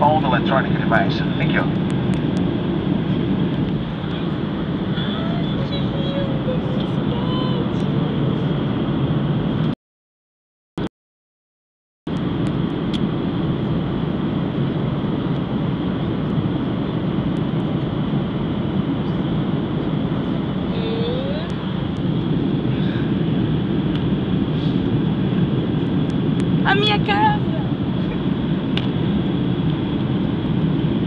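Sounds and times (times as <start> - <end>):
airliner cabin noise: 0.0 - 9.8, 12.1 - 31.0.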